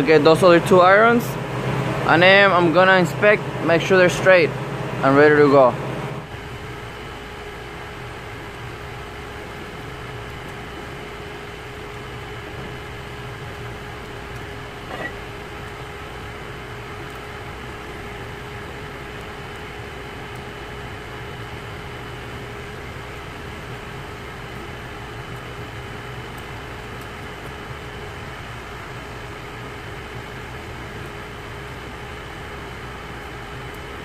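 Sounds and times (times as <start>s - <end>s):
fan motor humming: 0.0s - 34.0s.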